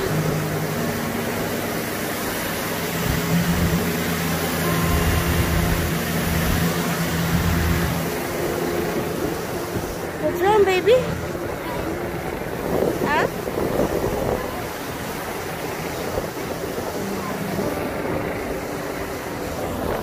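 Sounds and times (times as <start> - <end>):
constant rushing noise: 0.0 - 20.0
engine low hum: 0.0 - 20.0.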